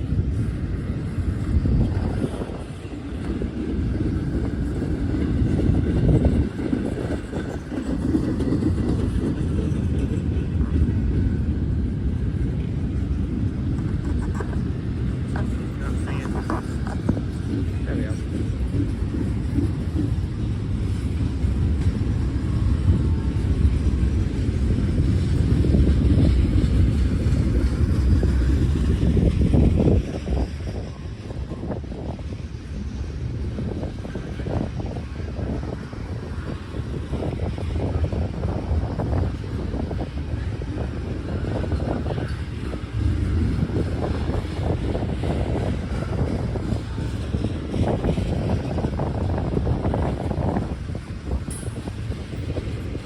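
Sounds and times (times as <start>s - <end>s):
freight train rumbling on rails: 0.0s - 53.0s
wind buffeting microphone: 0.0s - 53.0s.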